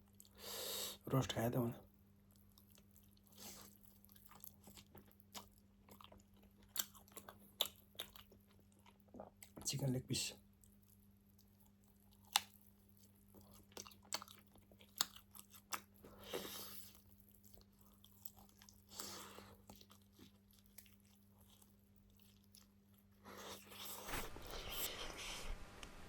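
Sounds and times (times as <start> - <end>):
chewing and crunching food: 0.0 - 0.4, 1.8 - 26.0.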